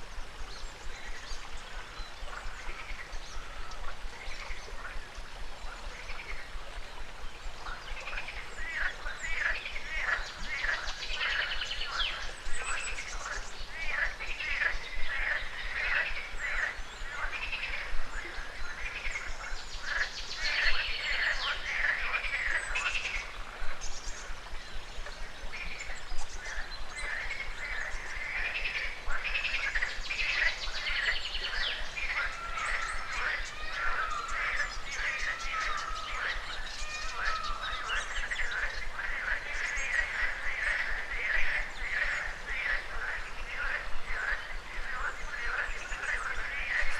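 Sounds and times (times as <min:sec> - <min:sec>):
frogs croaking: 0:00.0 - 0:46.9.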